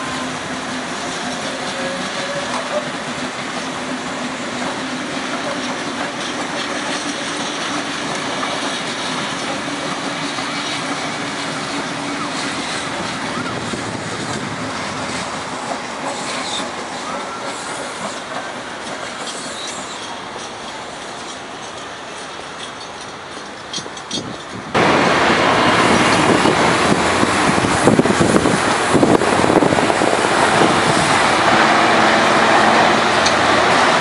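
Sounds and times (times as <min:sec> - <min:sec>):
train wheels rolling on rail: 0:00.0 - 0:34.0.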